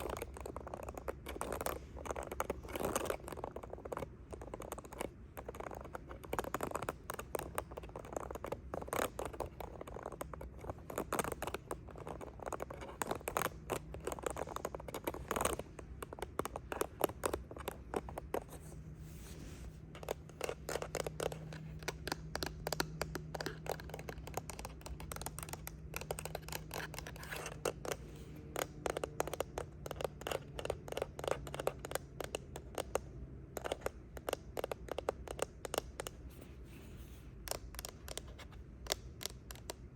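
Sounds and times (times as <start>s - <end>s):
faint low hum: 0.0s - 39.9s
tapping and scratching on a device: 0.0s - 39.9s.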